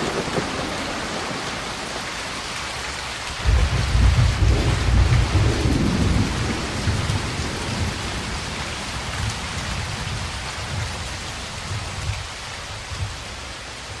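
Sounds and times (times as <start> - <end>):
steady rain falling: 0.0 - 14.0
thunder rumble: 0.0 - 14.0.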